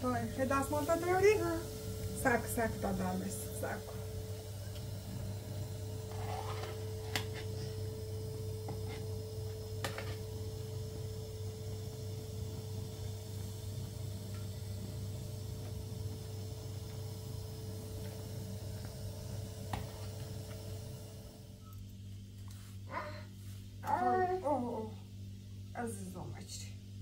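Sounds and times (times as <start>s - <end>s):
gas burner humming: 0.0s - 27.0s.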